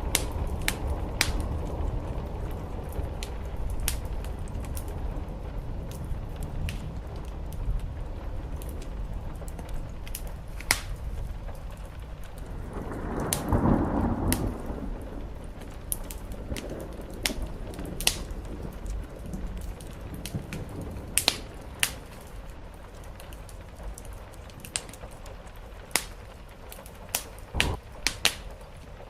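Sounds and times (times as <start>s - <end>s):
steady rain: 0.0s - 29.0s
wood fire crackling: 0.0s - 29.0s.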